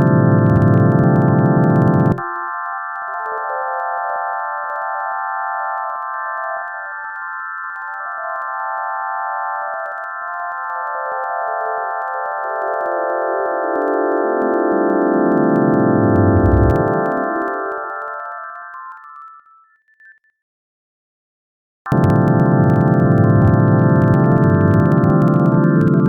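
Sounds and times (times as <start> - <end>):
cluster of steady sine tones: 0.0 - 20.2, 21.9 - 26.0.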